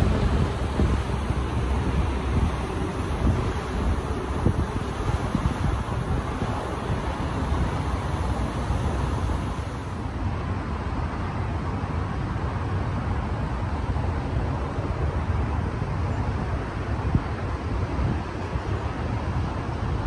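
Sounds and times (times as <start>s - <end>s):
freeway traffic noise: 0.0s - 20.0s
wind rumbling on microphone: 0.0s - 20.0s.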